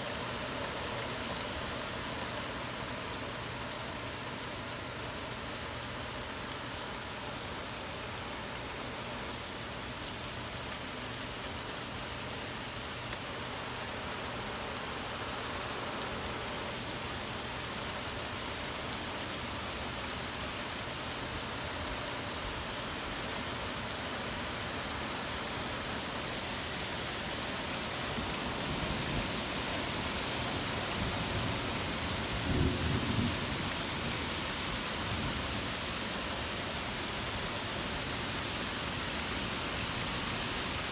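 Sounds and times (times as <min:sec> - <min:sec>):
torrential rain: 0:00.0 - 0:40.9.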